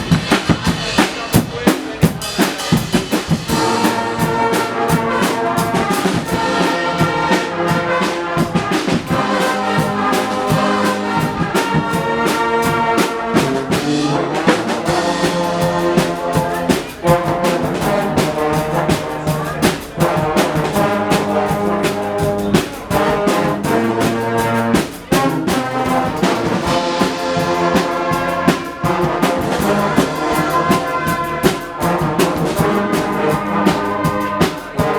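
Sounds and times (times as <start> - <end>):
drums and cymbals beat: 0.0 - 34.9
trumpets and trombones blaring: 0.0 - 34.9.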